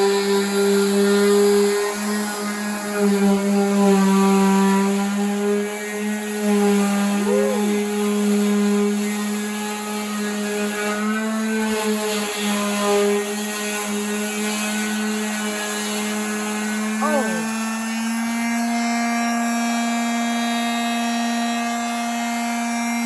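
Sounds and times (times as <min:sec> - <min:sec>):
power sander motor whine: 0:00.1 - 0:23.0.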